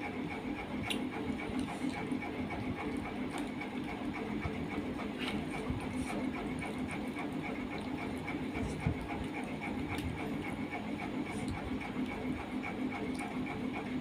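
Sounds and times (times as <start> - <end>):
fan motor droning hum: 0.0 - 14.0.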